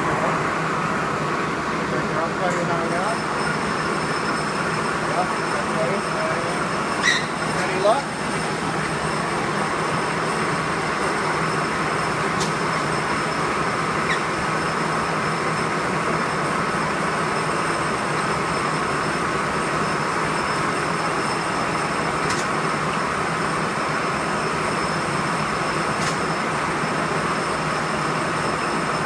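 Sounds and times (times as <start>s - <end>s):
rotary grinder whine: 0.0s - 29.0s.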